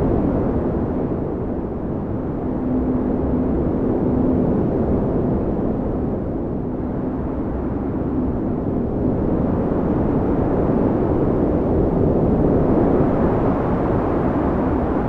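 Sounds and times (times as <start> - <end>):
blizzard wind blowing hard: 0.0 - 15.0.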